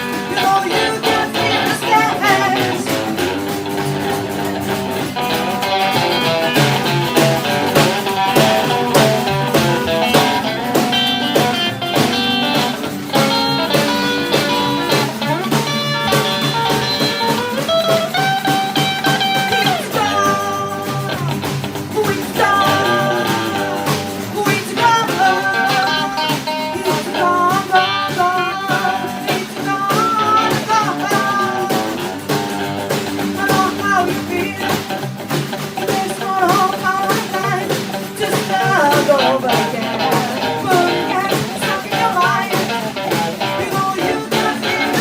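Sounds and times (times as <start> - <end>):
blues-rock band playing: 0.0 - 45.0
electric guitar melody with bent notes: 0.0 - 45.0.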